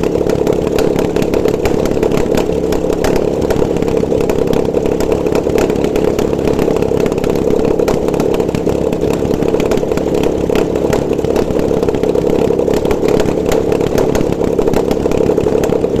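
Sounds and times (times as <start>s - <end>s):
car engine running: 0.0s - 16.0s
fast even engine ticking: 0.0s - 16.0s.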